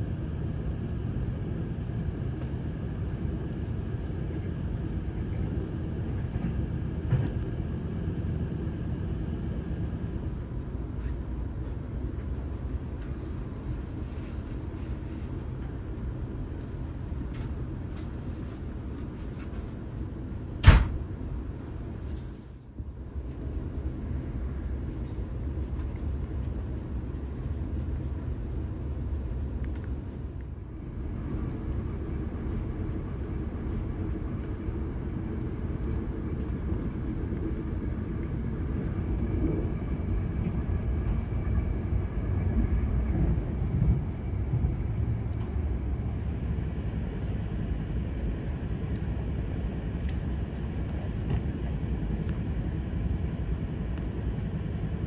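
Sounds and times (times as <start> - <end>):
train coach rumbling: 0.0 - 55.0.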